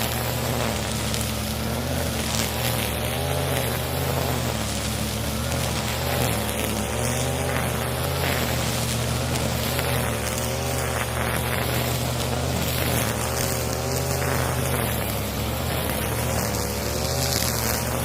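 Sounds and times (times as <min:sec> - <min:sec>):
brushcutter cutting grass: 0:00.0 - 0:18.0.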